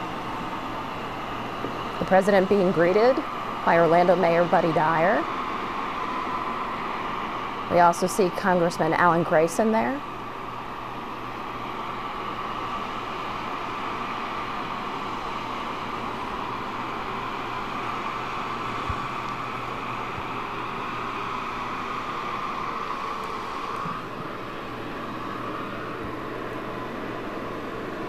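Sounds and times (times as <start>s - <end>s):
jet aircraft engine noise: 0.0s - 28.0s.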